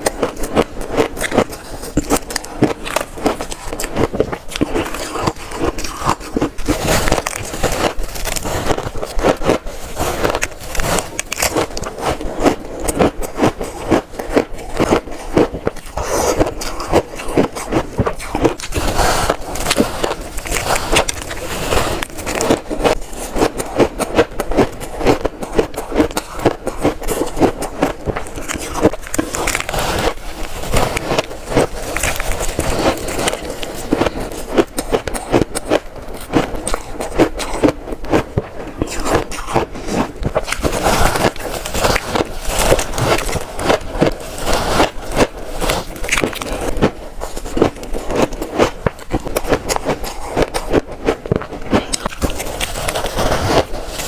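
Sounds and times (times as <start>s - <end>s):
crunching shaved ice: 0.0s - 54.0s.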